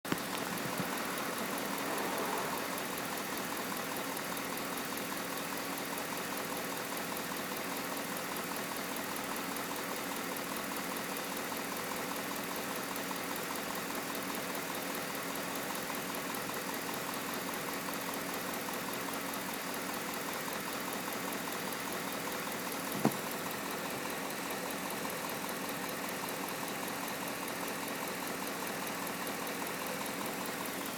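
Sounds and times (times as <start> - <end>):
car engine idling: 0.0 - 30.9
fast even engine ticking: 0.1 - 30.9.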